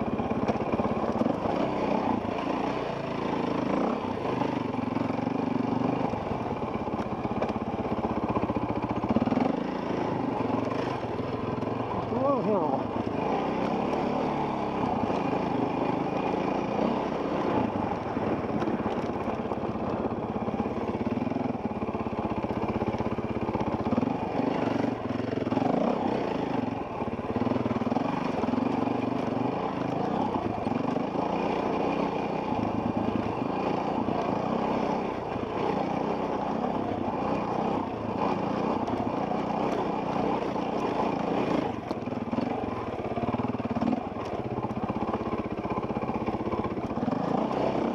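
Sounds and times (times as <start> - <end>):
dirt bike engine revving: 0.0 - 6.7, 8.3 - 47.9.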